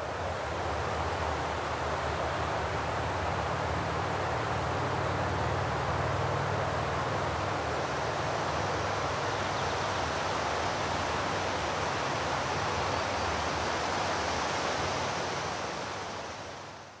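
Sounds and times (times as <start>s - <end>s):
outdoor ambience rushing noise: 0.0s - 17.0s.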